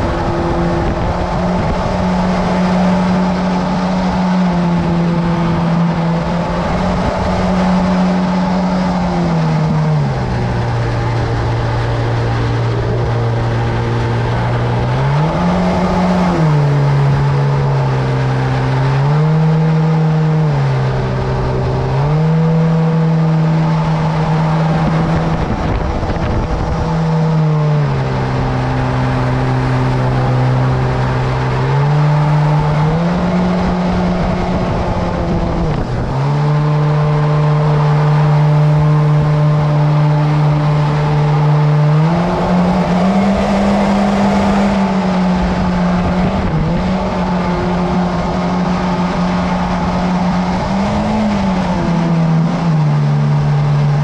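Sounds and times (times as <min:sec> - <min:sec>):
boat motor running: 0:00.0 - 0:54.0
steady rushing noise: 0:00.0 - 0:54.0.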